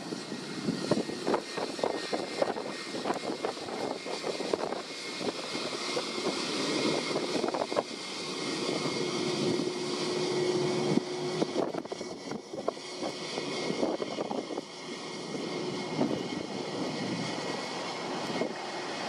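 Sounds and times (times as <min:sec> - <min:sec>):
steady hum: 0:00.0 - 0:19.0
turboprop engines droning: 0:00.0 - 0:19.0.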